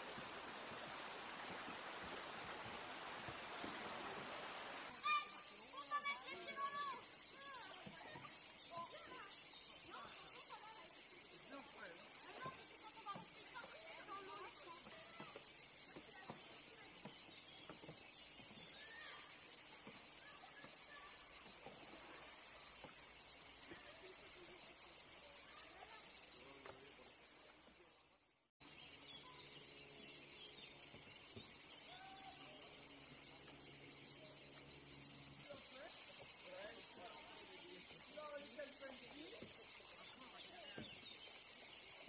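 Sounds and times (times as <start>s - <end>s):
cicadas shrilling: 0.0s - 42.0s
faint bird chirps: 4.9s - 42.0s.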